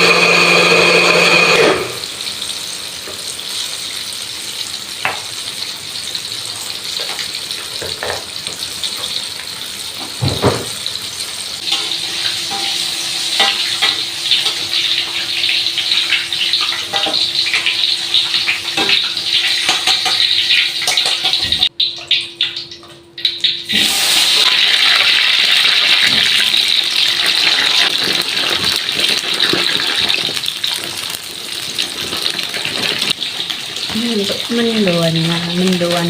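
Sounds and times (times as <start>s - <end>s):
oil sizzling in a frying pan: 1.3s - 21.8s, 22.5s - 36.0s.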